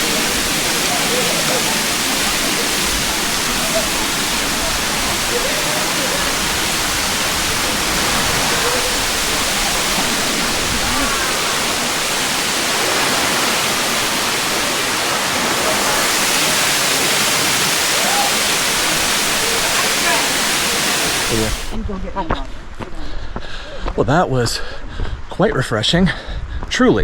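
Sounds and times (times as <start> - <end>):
waterfall rushing: 0.0 - 21.8
faint voices: 0.0 - 24.0.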